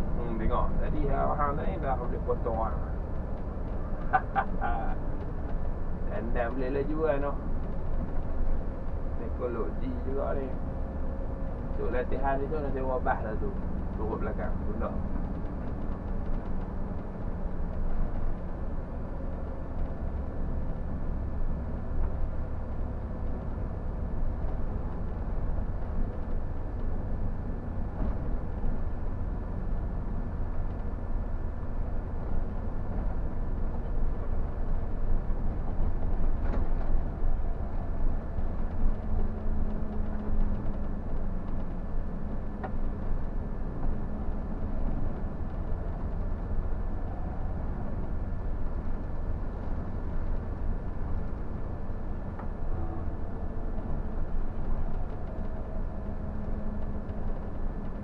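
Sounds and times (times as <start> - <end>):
bus engine rumble: 0.0 - 58.0
road noise: 0.0 - 58.0.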